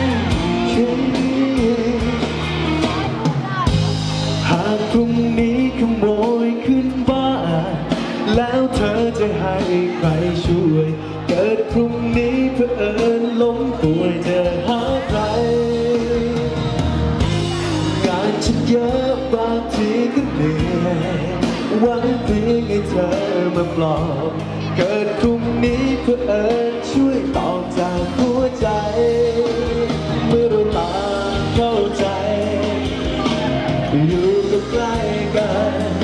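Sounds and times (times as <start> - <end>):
man singing into microphone: 0.0 - 36.0
pop accompaniment with steady beat: 0.0 - 36.0.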